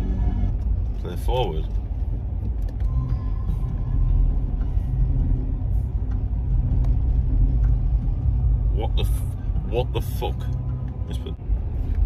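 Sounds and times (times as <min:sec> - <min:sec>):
car engine rumble in cabin: 0:00.0 - 0:12.0
road noise: 0:00.0 - 0:12.0.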